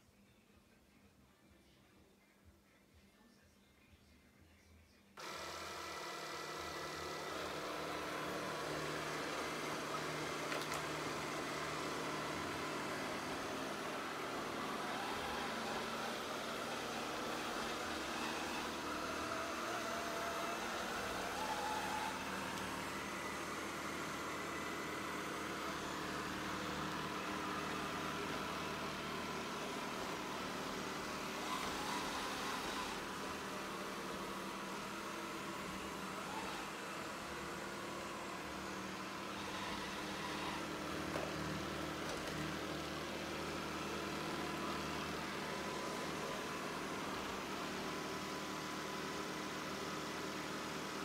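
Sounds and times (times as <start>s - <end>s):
robot vacuum fan and brushes: 5.2s - 51.0s.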